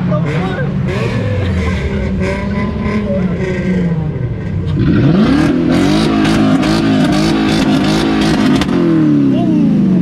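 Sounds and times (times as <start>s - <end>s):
car engine revving hard: 0.1s - 9.3s.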